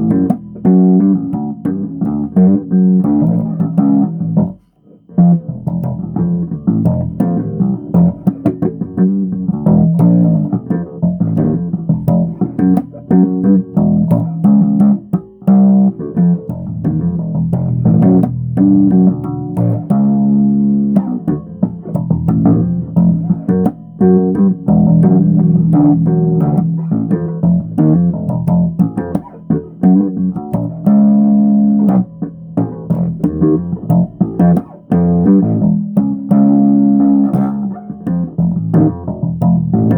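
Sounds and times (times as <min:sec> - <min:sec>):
bass guitar plucked notes: 0:00.0 - 0:39.9.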